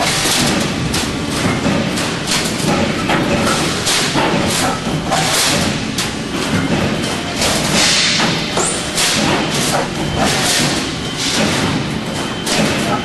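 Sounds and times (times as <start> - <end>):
heavy machine thuds: 0.0 - 13.0
roll-forming machine running: 0.0 - 13.0.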